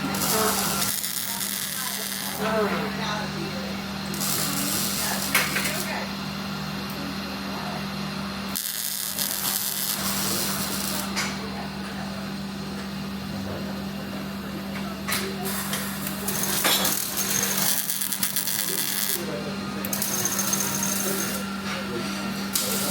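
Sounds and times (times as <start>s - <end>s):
workshop machinery hum: 0.0s - 22.9s.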